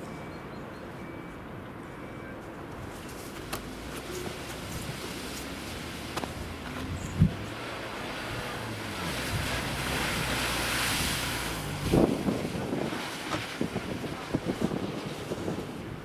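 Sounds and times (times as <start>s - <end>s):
car driving through slush: 2.8s - 16.0s
wind on microphone: 2.9s - 16.0s.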